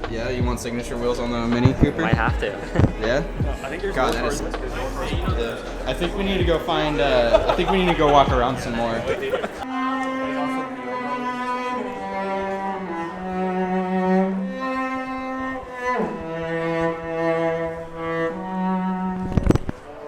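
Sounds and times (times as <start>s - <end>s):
slow cello music: 0.0s - 20.0s.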